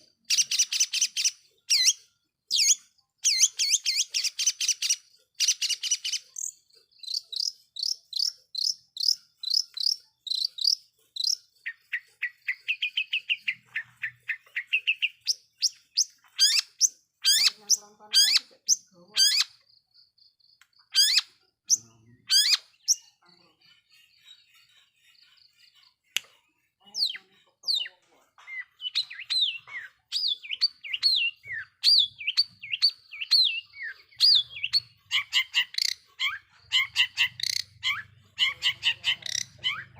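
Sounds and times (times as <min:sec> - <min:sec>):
shrike singing varied song: 0:00.1 - 0:23.3, 0:26.8 - 0:39.9.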